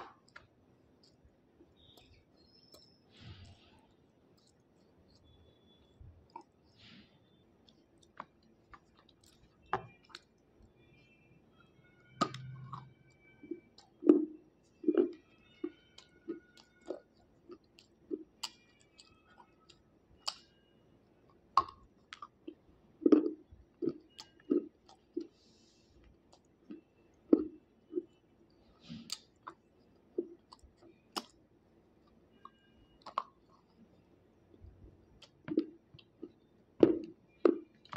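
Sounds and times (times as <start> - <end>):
faint low hum: 0.0 - 37.9.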